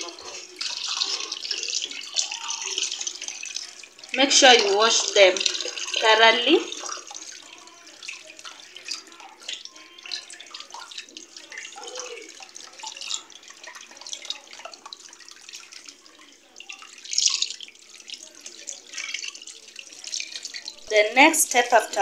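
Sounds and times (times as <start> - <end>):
hands scrubbing and sloshing water: 0.0 - 22.0
tap running into water: 0.0 - 22.0.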